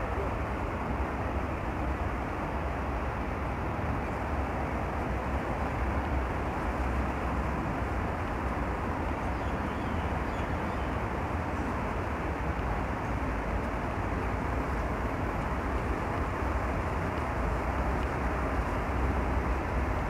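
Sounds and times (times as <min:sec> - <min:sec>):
low city rumble: 0:00.0 - 0:20.0.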